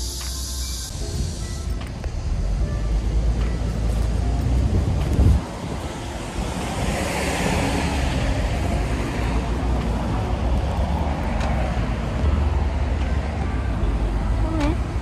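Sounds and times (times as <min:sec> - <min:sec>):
street traffic: 0:00.0 - 0:15.0
wind buffeting microphone: 0:00.9 - 0:13.0.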